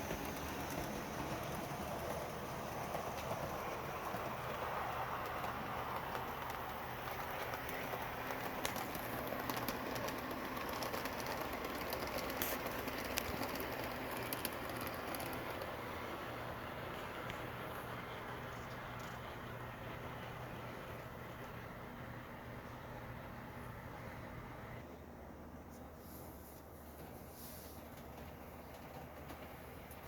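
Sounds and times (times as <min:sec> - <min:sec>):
wheels clicking over rails: 0:00.0 - 0:24.9, 0:26.6 - 0:30.0
train rolling on track: 0:00.0 - 0:26.0, 0:26.6 - 0:30.0.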